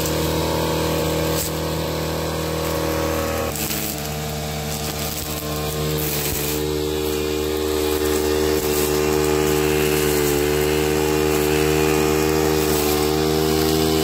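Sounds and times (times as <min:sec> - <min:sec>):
string trimmer engine running: 0:00.0 - 0:14.0
trimmer line cutting weeds: 0:00.0 - 0:14.0.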